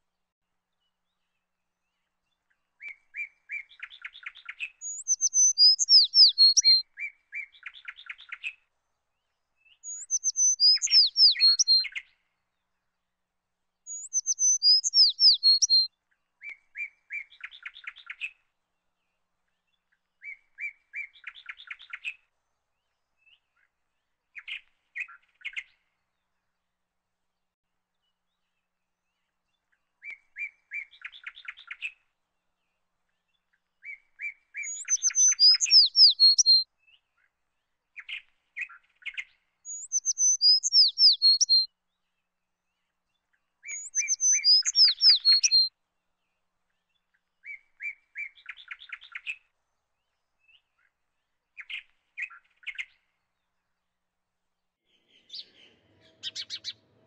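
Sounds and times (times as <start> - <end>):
songbird singing: 0.7 - 13.1, 13.8 - 26.8, 27.4 - 57.0.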